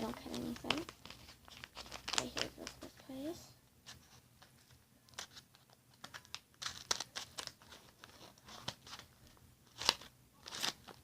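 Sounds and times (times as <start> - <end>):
paper crinkling: 0.0 - 3.1, 3.8 - 11.0.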